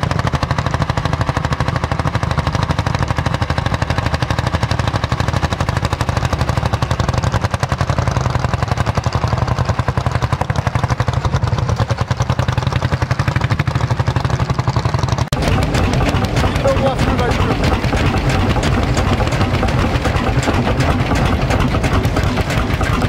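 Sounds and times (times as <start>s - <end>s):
tractor engine knocking exhaust: 0.0s - 23.0s.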